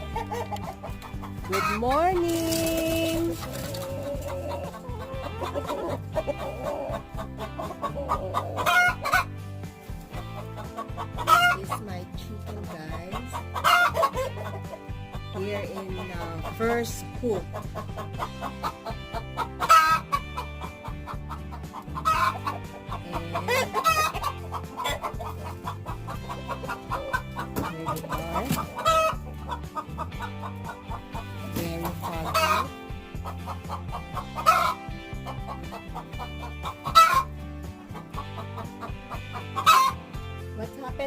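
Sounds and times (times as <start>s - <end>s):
background music with steady beat: 0.0s - 41.0s
chickens clucking and squawking: 0.0s - 41.0s.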